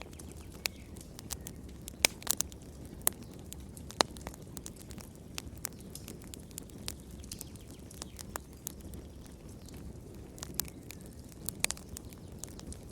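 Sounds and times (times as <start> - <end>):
low rumble of flames: 0.0 - 12.9
wood fire crackling: 0.0 - 12.9.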